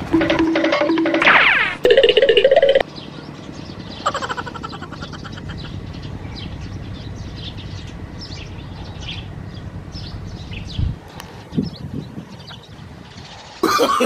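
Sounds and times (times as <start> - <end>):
small birds chirping: 2.0 - 13.7.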